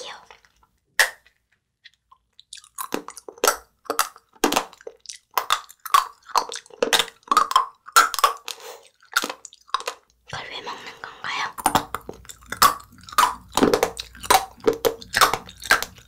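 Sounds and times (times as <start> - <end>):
crunchy chewing: 1.2 - 10.2, 11.6 - 16.0.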